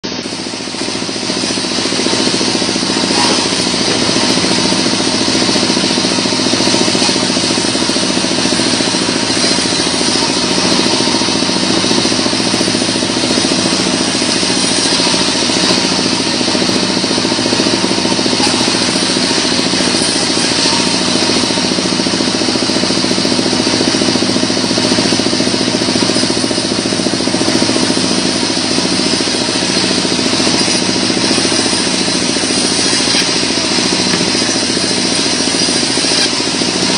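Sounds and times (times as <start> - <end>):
band saw cutting log: 0.0 - 36.9.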